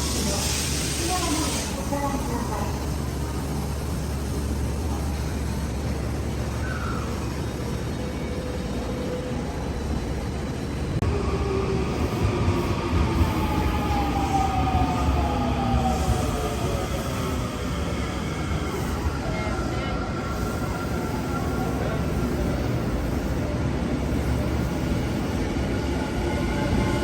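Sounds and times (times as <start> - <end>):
electric train rumbling: 0.0 - 27.0
falling train whine: 0.0 - 27.0.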